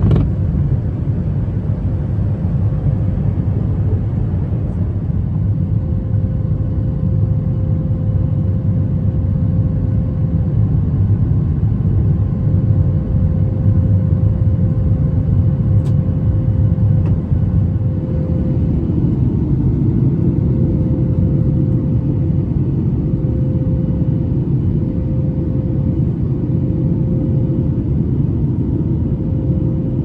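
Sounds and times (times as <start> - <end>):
constant hum: 0.0 - 30.0
engine and airflow rumble: 0.0 - 30.0.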